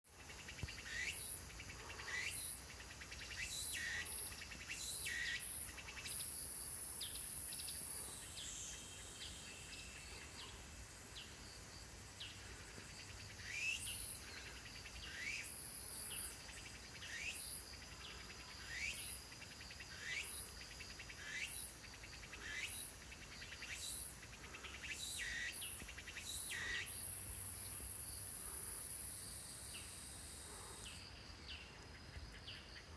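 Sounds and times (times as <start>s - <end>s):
cicada steady buzz: 0.1s - 32.9s
cicada rhythmic high-pitched calls: 0.2s - 31.0s.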